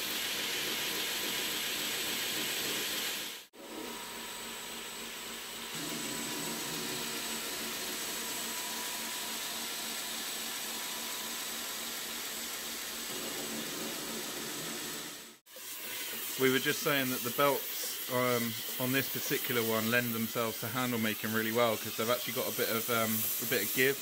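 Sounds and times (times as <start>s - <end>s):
belt grinder hissing: 0.0s - 24.0s.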